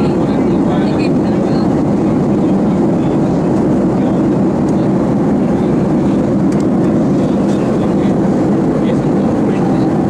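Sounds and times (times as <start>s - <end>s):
airliner cabin jet engine rush: 0.0s - 10.0s.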